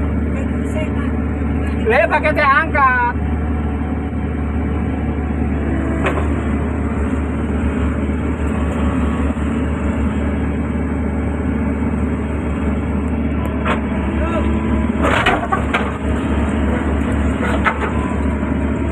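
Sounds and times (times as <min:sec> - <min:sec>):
excavator diesel engine droning: 0:00.0 - 0:18.9.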